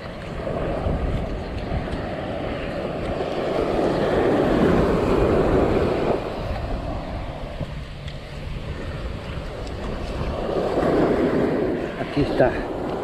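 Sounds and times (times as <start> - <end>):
surf washing up sand: 0.0 - 13.0.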